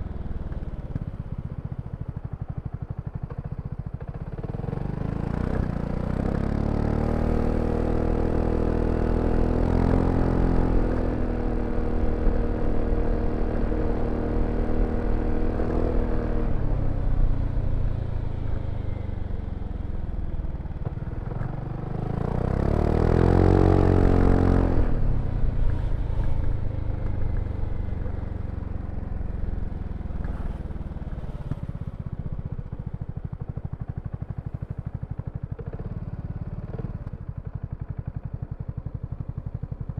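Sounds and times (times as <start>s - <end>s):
scooter engine accelerating: 3.3s - 38.7s.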